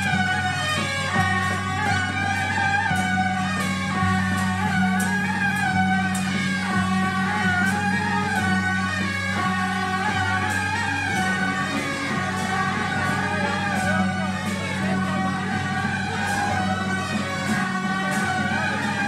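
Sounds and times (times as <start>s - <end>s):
horns playing wavering melody: 0.0s - 19.0s
percussion strikes: 0.0s - 19.0s
steady low drone tones: 0.0s - 19.0s.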